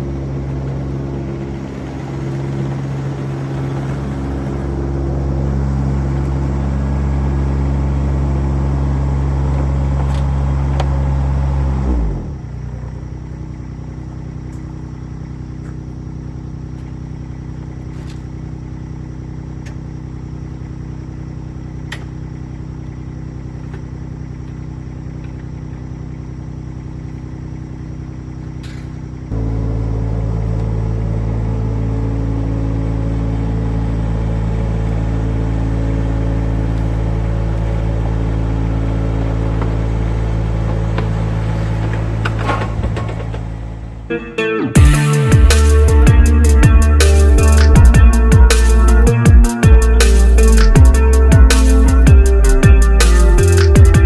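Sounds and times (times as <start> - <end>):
engine revving and idling: 0.0 - 54.0.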